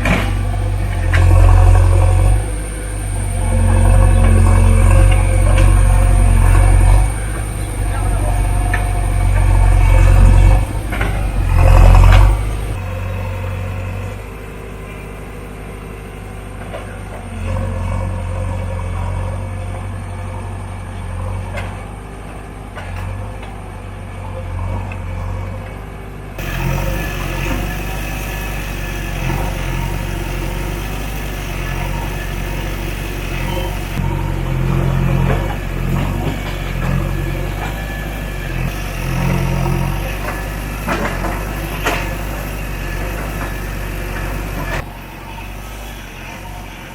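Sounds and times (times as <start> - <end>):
backhoe diesel engine working: 0.0 - 46.9.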